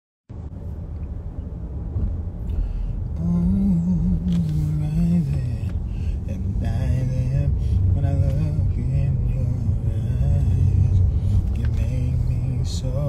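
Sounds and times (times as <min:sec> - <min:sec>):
low steady rumble: 0:00.3 - 0:13.0.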